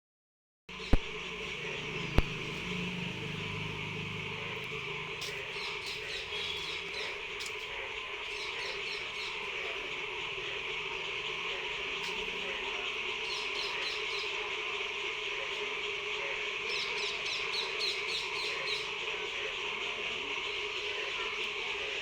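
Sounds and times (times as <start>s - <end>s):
birds chirping: 0.7s - 22.0s
insect drone: 0.7s - 22.0s.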